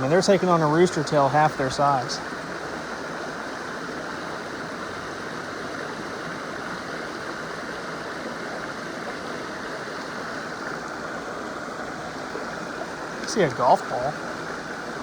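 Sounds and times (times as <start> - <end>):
creek water over small waterfall: 0.0 - 15.0.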